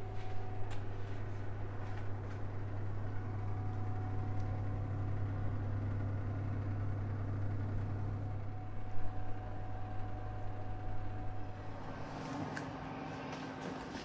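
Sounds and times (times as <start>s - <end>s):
oven fan humming: 0.0s - 14.0s.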